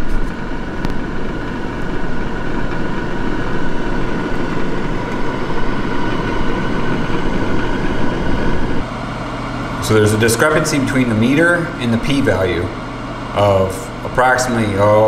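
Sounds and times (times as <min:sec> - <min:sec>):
dehydrator fan whirring: 0:00.0 - 0:15.0.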